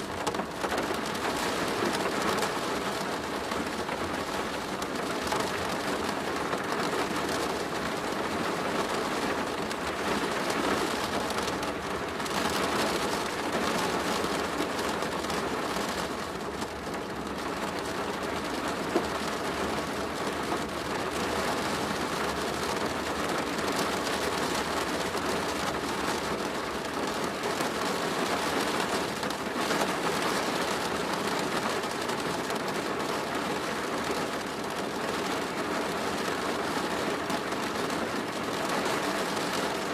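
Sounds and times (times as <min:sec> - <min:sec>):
rain on a plastic roof: 0:00.0 - 0:39.9.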